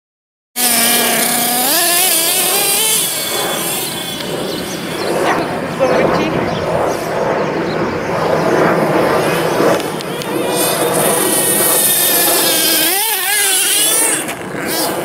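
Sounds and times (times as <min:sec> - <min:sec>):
small engine buzzing at speed: 0:00.6 - 0:15.0.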